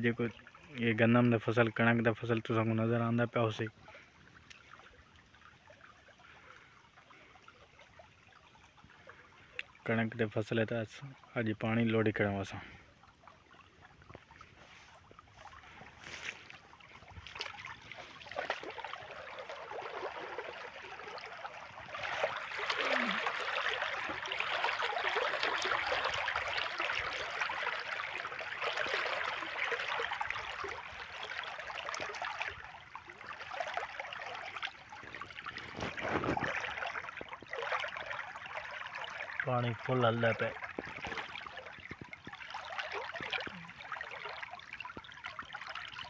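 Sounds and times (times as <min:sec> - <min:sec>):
water rushing along a channel: 0:00.0 - 0:46.0.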